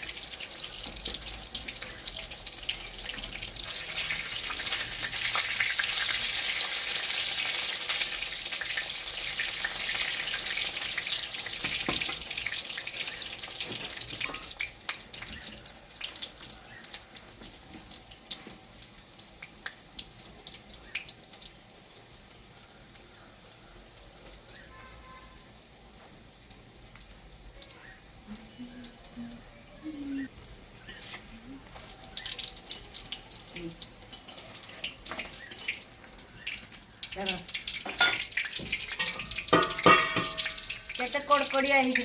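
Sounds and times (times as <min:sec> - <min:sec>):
pakoras frying in hot oil: 0:00.0 - 0:42.0.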